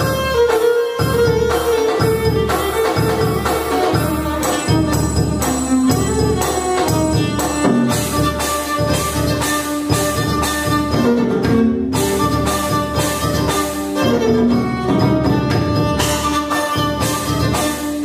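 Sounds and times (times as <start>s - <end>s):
drum kit beat with cymbals: 0.0s - 18.0s
violin playing klezmer melody: 0.0s - 18.0s.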